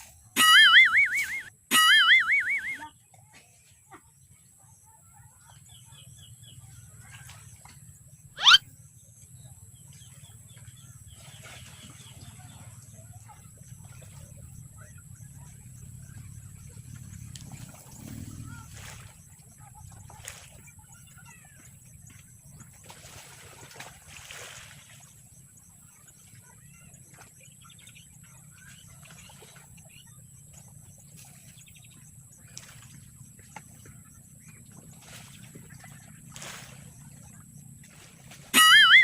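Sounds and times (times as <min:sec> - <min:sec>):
faint bird chirps: 0:00.4 - 0:23.3, 0:25.4 - 0:37.4, 0:38.0 - 0:39.0.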